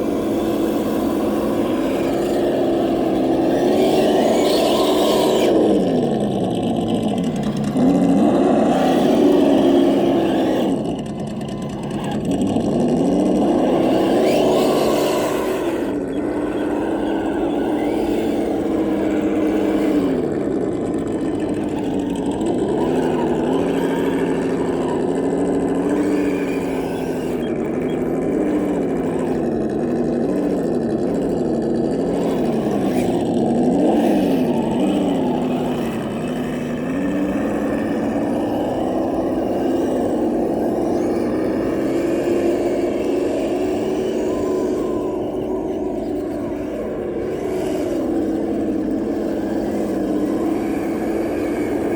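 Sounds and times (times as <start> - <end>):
toy vehicle motor whining: 0.0 - 51.9.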